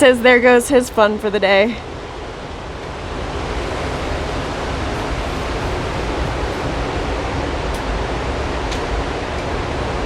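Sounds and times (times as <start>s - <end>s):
waterfall rushing: 1.9s - 10.0s.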